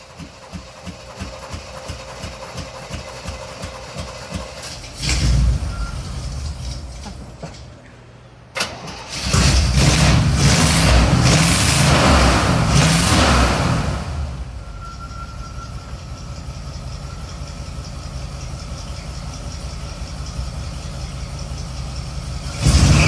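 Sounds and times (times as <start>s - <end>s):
engine cranking and starting: 0.0s - 7.8s, 8.6s - 23.0s.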